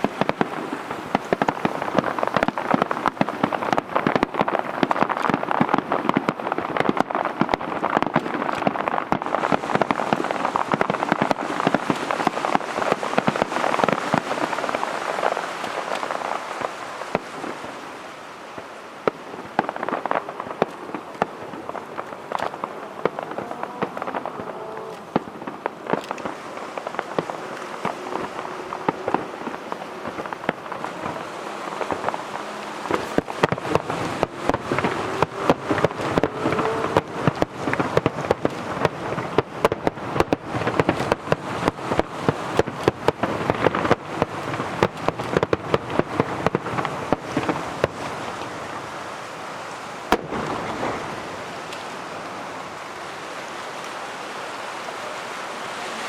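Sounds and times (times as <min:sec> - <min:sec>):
loud firework pops: 0:00.0 - 0:17.8, 0:18.6 - 0:48.8, 0:49.6 - 0:52.0
fireworks crackling: 0:00.0 - 0:56.0.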